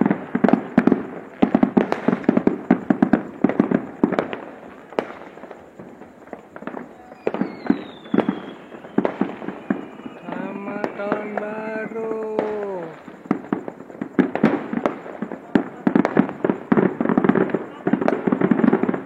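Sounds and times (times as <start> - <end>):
fireworks and firecrackers banging: 0.0 - 19.0.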